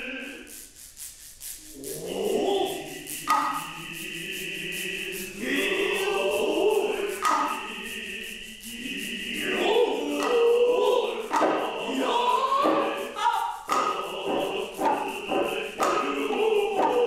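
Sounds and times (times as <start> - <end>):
chorus chanting in unison: 0.0 - 0.6, 1.6 - 17.0
sharp drum strokes: 0.0 - 17.0.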